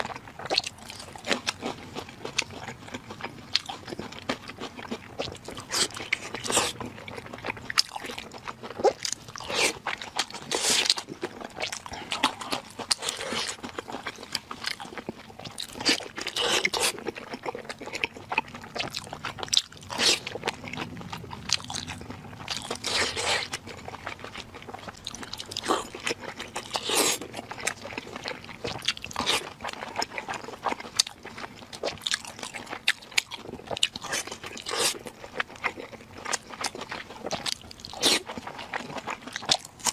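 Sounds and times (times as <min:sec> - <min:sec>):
person eating crunchy food: 0:00.0 - 0:39.9.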